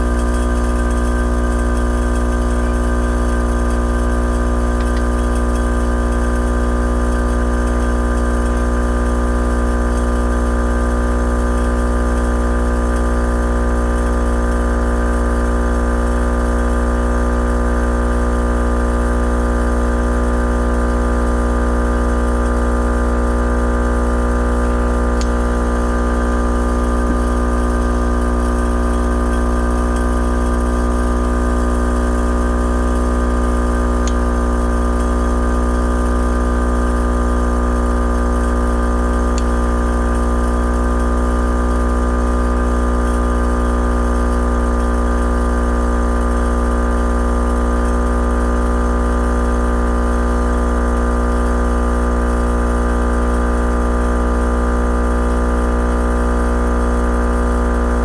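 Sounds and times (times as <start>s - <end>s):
air compressor running: 0.0s - 58.0s.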